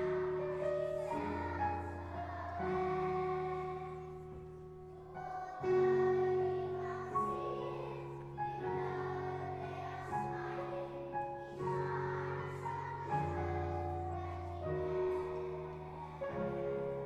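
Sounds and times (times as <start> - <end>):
children's choir singing: 0.0 - 17.0
piano accompaniment: 0.0 - 17.0.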